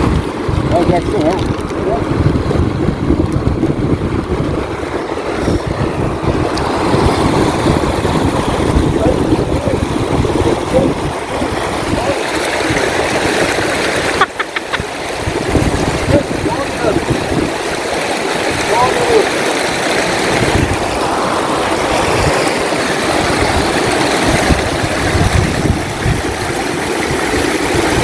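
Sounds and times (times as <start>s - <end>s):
river water rushing over rocks: 0.0s - 28.0s
wind buffeting microphone: 0.0s - 28.0s.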